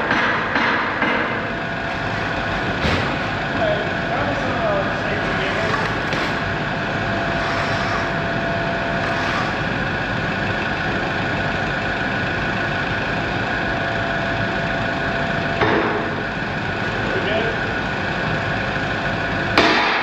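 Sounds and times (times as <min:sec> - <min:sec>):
diesel engine idling: 0:00.0 - 0:20.0
steady whine: 0:00.0 - 0:20.0.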